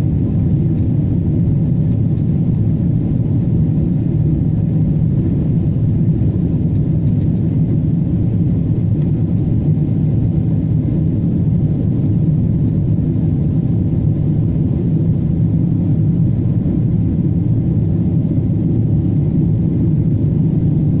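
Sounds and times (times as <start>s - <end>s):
airplane engines rumbling in cabin: 0.0s - 21.0s.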